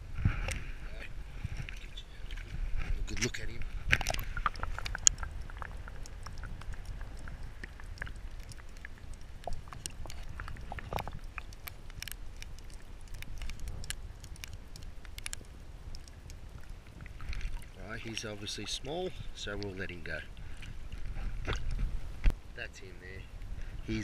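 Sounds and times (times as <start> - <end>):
underwater rumble of moving water: 0.0 - 24.0
sharp underwater clicks and crackles: 0.2 - 0.8, 1.4 - 22.4.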